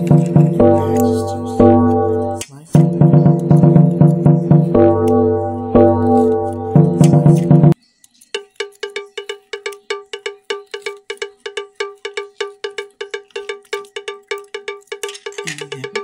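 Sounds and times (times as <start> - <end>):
rapid cowbell-like strikes: 0.0 - 16.0.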